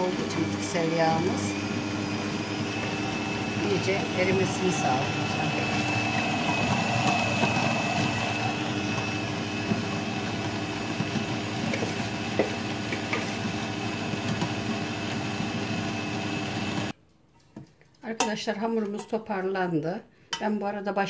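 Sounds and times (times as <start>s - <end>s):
stand mixer motor whine: 0.0s - 17.0s.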